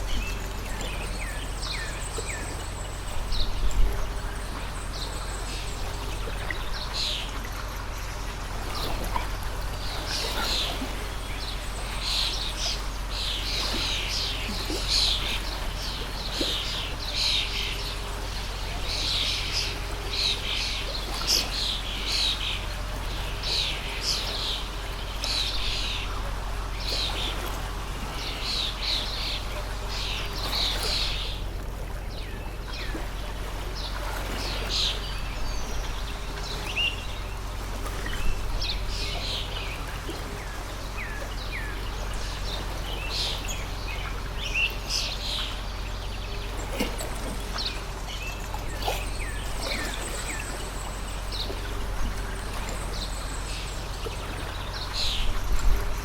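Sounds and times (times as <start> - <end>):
small birds chirping: 0.0 - 56.0
stream flowing: 0.0 - 56.0.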